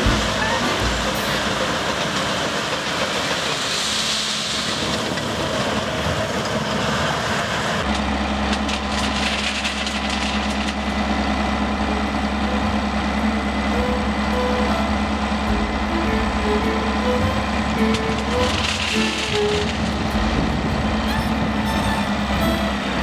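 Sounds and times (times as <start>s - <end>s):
diesel truck engine idling: 0.0s - 3.5s, 4.9s - 23.0s
crawler dozer working stone: 0.0s - 23.0s.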